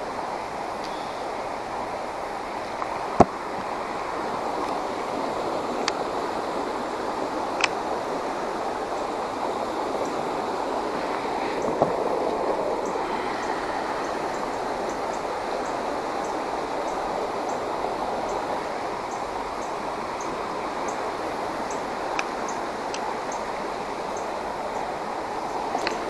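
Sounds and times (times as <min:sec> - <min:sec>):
creek water rushing over rocks: 0:00.0 - 0:26.0.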